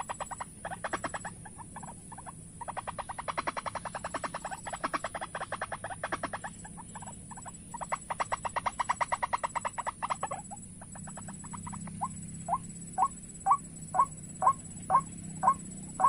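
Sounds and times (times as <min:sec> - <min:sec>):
waterhen calls: 0:00.0 - 0:16.0.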